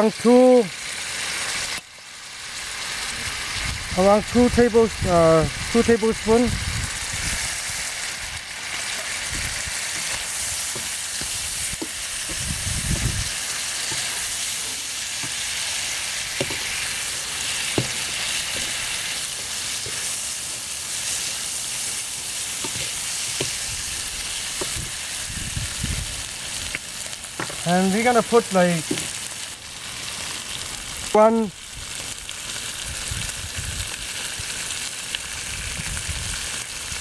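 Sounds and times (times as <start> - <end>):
food sizzling in a frying pan: 0.0 - 37.0.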